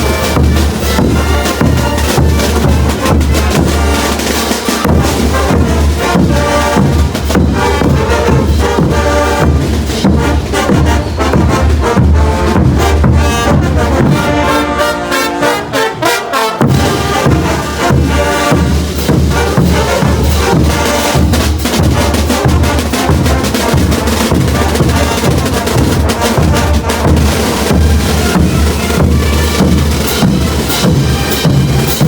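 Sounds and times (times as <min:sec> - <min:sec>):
steady drum beat: 0:00.0 - 0:16.0, 0:16.6 - 0:32.0
low brass: 0:00.0 - 0:32.0
trumpets and trombones: 0:00.0 - 0:32.0.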